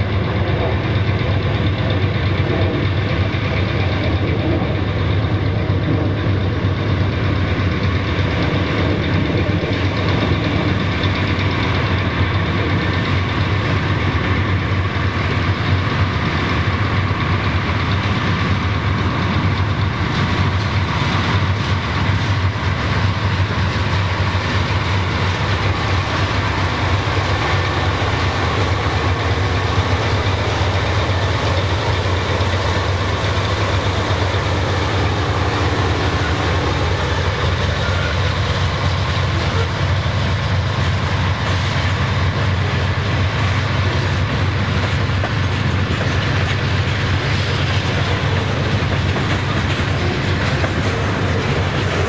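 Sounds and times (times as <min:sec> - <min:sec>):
diesel locomotive engine hum: 0:00.0 - 0:52.0
rail cars rumbling on track: 0:00.0 - 0:52.0.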